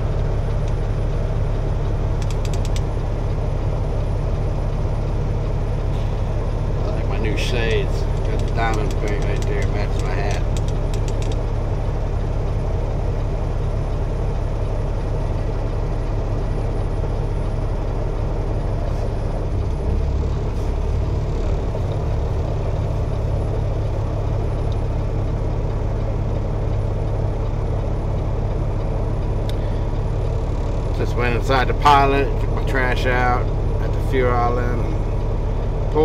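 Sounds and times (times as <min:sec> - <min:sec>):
diesel truck engine humming: 0:00.0 - 0:36.0.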